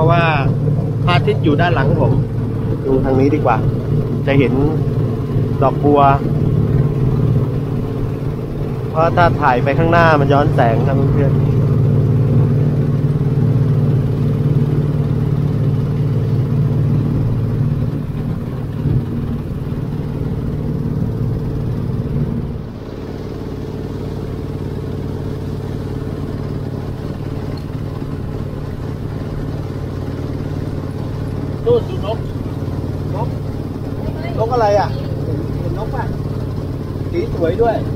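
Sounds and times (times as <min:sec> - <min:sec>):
boat engine running: 0:00.0 - 0:37.9.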